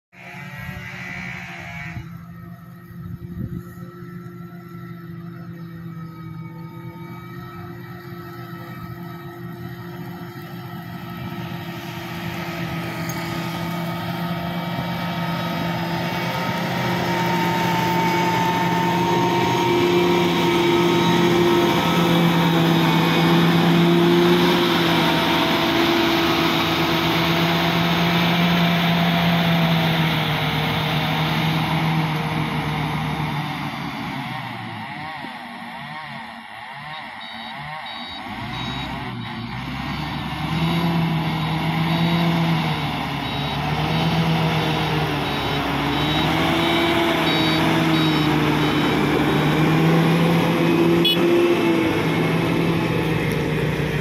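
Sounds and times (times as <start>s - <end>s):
grader diesel engine passing: 0.2s - 54.0s.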